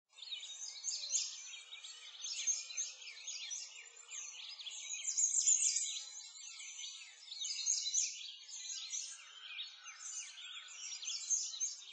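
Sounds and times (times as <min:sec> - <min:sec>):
small birds chirping: 0:00.1 - 0:11.9.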